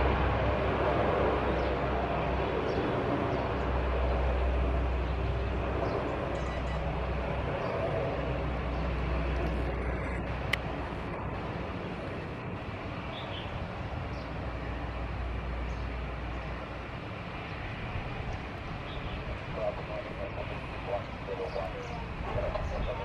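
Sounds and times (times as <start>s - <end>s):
turboprop aircraft engines droning: 0.0s - 23.0s.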